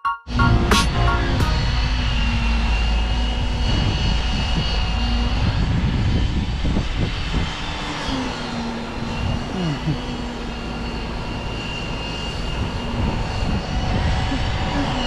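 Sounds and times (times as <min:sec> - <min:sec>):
wind rumbling on microphone: 0:01.4 - 0:15.0.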